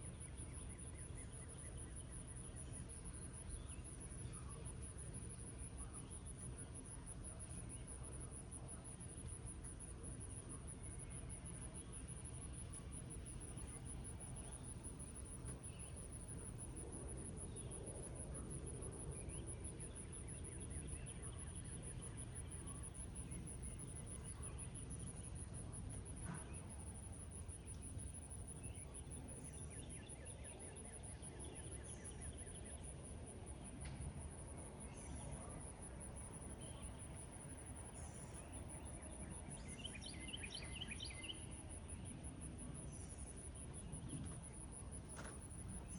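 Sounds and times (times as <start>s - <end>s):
insect trill: 0.1s - 44.1s, 44.7s - 45.9s.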